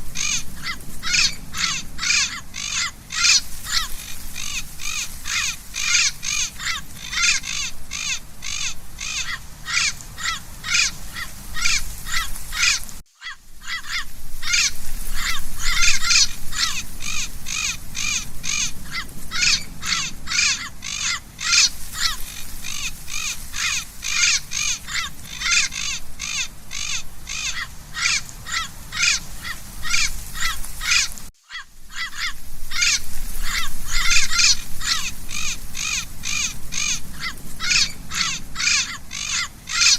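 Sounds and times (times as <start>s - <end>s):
parrot squawking: 0.2s - 39.9s.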